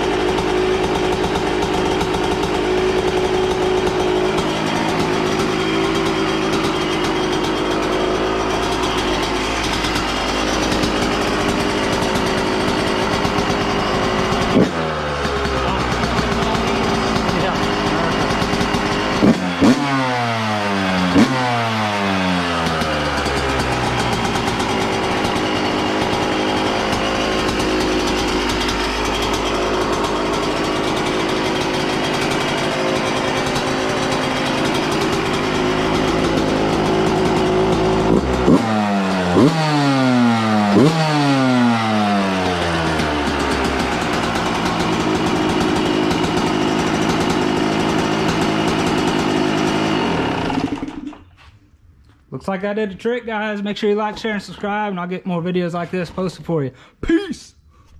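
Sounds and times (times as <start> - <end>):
motorcycle engine idling and revving: 0.0 - 52.3.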